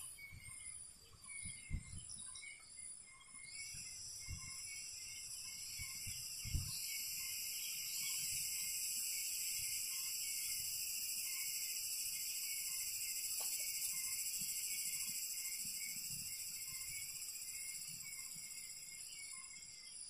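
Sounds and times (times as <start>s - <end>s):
faint chirps: 0.0s - 20.0s
high insect drone: 3.4s - 20.0s.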